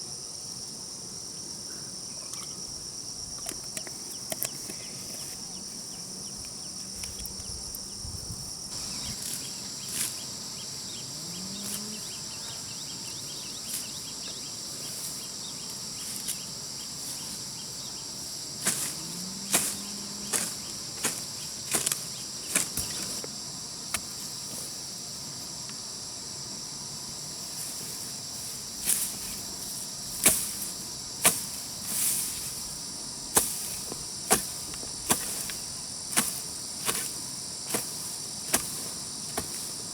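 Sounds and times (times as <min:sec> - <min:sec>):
insects chirping chorus: 0:00.0 - 0:39.9.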